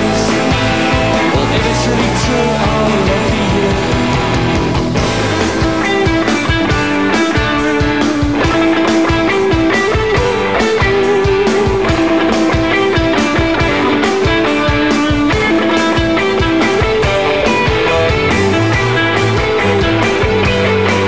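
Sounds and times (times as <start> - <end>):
rock band playing instrumental: 0.0 - 21.0.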